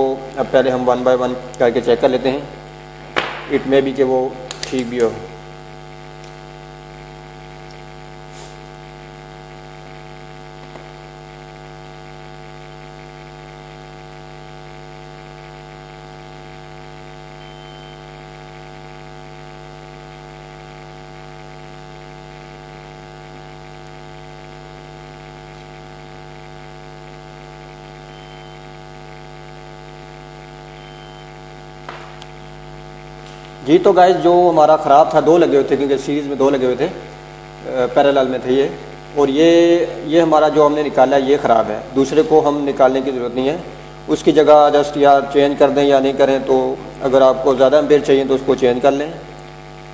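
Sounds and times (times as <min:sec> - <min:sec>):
electrical mains hum: 0:00.0 - 0:49.9.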